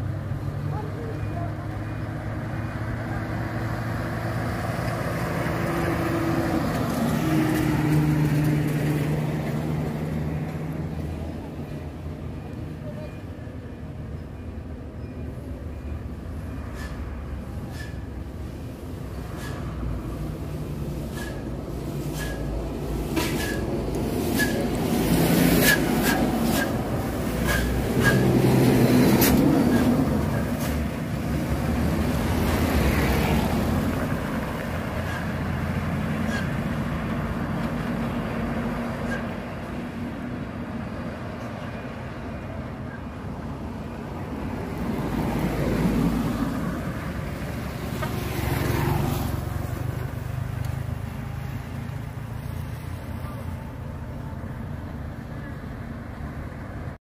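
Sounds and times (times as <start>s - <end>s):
passing vehicle engines: 0.0s - 57.0s.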